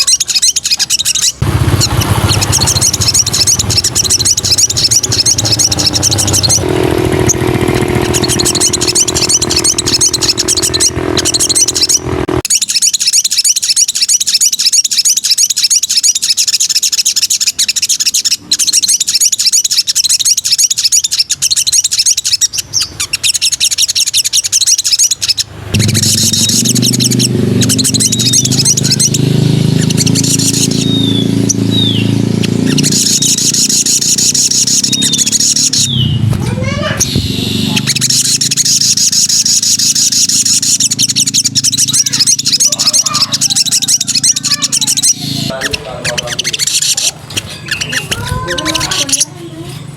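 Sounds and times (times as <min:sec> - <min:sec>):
bird singing rapid high notes: 0:00.0 - 0:49.9.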